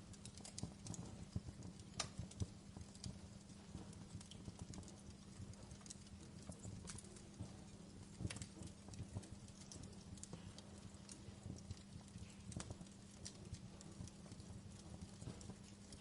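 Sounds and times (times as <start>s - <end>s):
low steady hiss: 0.0s - 16.0s
wood fire crackling: 0.0s - 16.0s.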